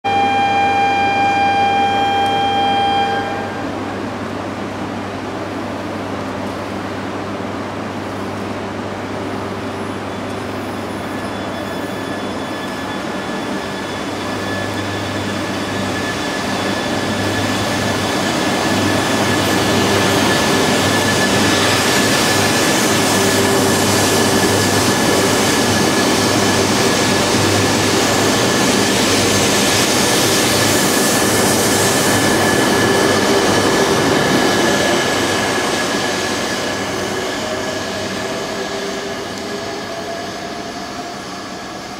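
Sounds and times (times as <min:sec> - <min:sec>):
train running past: 0:00.1 - 0:41.9.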